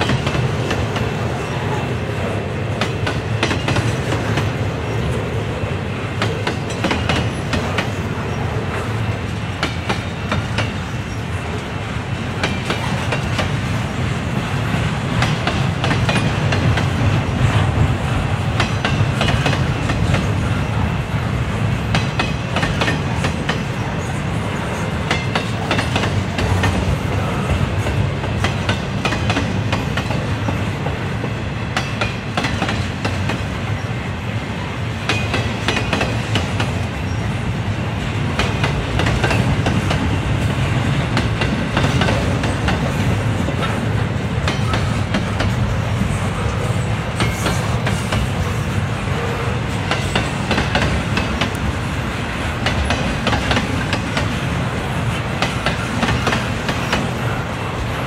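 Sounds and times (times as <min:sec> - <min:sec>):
clanks from train wheels: 0:00.0 - 0:01.7, 0:02.7 - 0:05.2, 0:06.1 - 0:21.0, 0:21.8 - 0:34.0, 0:35.0 - 0:37.4, 0:38.2 - 0:58.0
freight train rolling past: 0:00.0 - 0:58.0.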